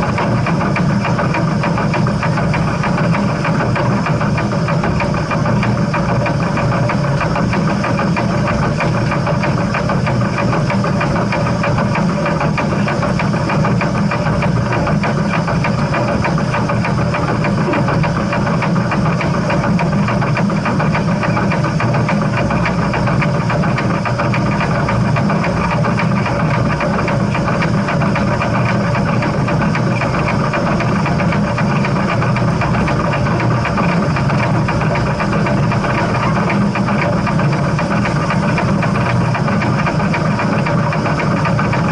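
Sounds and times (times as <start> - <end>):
steam train rumble and clatter: 0.0 - 41.9.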